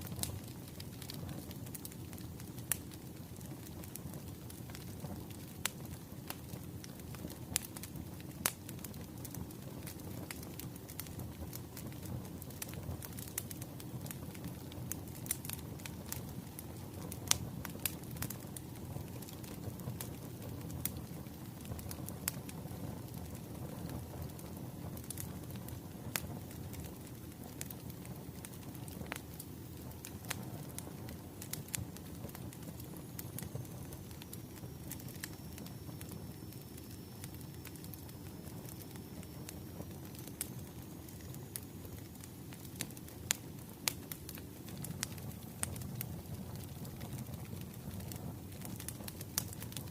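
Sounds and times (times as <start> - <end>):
bonfire crackling and popping: 0.0 - 49.9.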